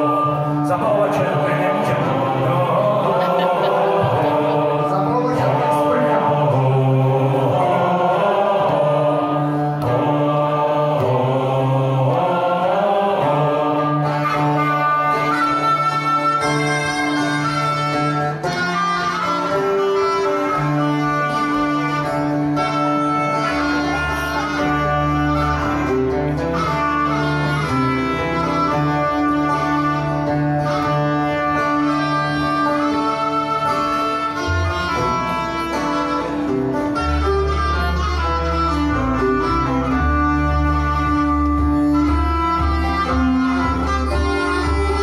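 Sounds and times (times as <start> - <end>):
fiddle holding long notes: 0.0 - 45.0
guitar: 0.0 - 45.0.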